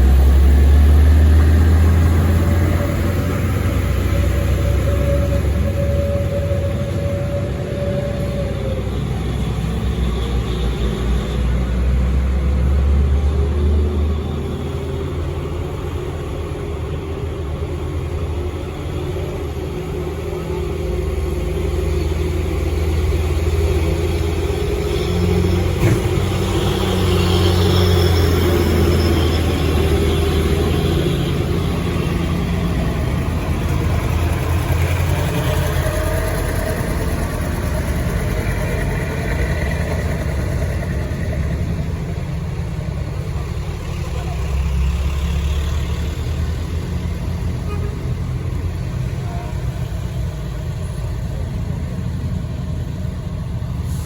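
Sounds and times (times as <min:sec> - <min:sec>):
vehicle engines humming: 0:00.0 - 0:54.0.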